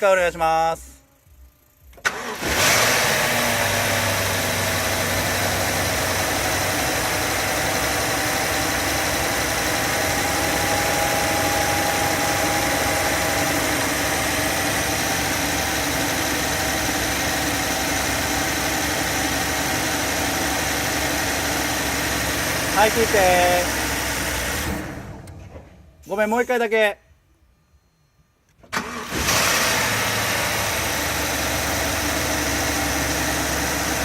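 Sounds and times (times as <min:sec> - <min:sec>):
car engine idling: 0:00.8 - 0:25.1, 0:29.8 - 0:34.0.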